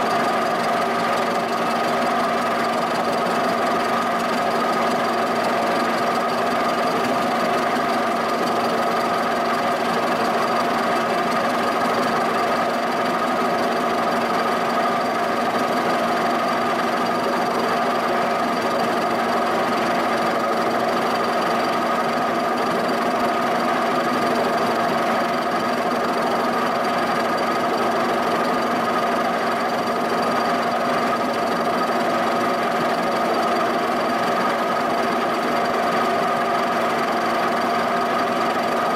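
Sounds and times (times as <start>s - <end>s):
milling machine humming: 0.0s - 38.9s.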